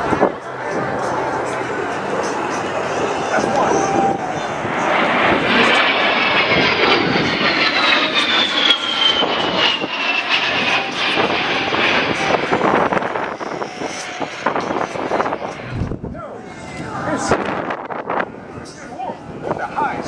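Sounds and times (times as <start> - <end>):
jet engine whine: 0.0 - 20.0
jet rushing noise: 0.0 - 20.0.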